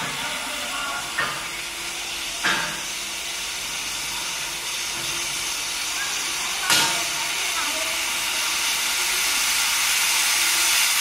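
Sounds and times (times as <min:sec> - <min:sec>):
cone maker machine running: 0:00.0 - 0:11.0
steam hissing: 0:00.0 - 0:11.0.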